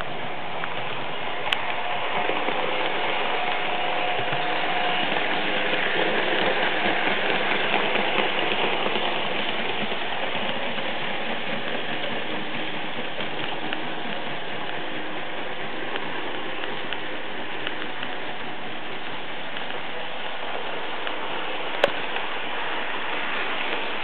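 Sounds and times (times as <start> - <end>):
faint motor hum: 0.0 - 24.0
model train wheels rattling on rails: 0.0 - 24.0.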